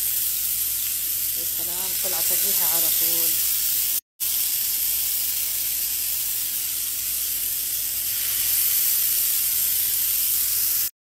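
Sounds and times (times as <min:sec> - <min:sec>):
chicken skewers sizzling in oil: 0:00.0 - 0:11.0.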